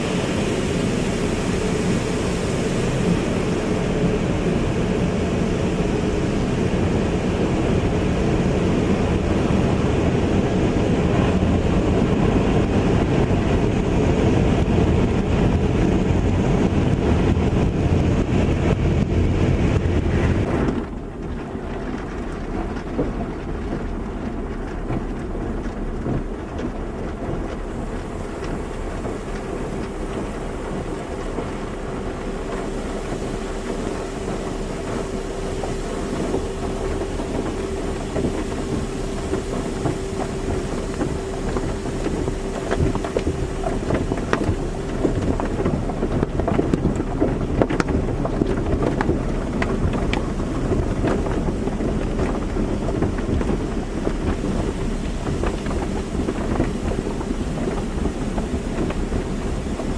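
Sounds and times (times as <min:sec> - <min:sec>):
car wash machinery rumble: 0:00.0 - 0:59.9
steady hum: 0:00.0 - 0:59.9
water spray spattering on car: 0:00.0 - 0:59.9.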